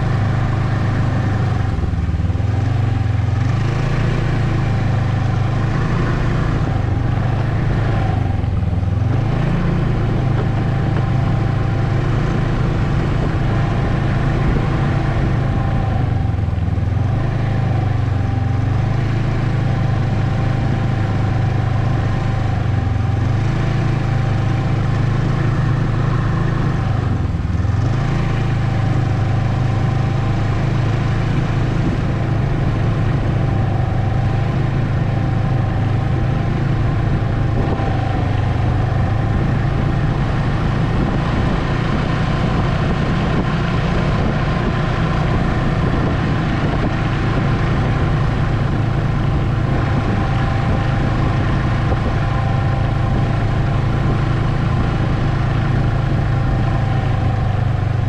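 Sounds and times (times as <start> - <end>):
snowmobile engine droning: 0.0 - 58.0.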